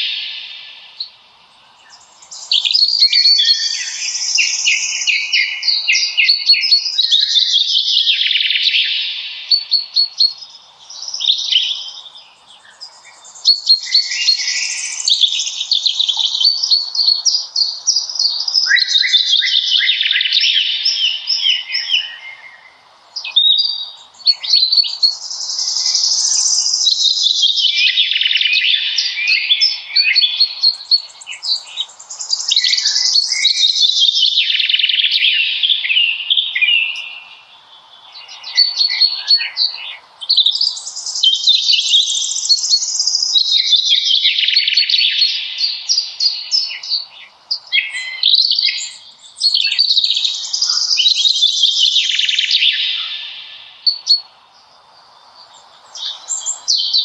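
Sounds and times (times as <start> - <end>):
faint steady hiss: 0.0 - 57.0
songbirds chirping and trilling: 0.0 - 57.0.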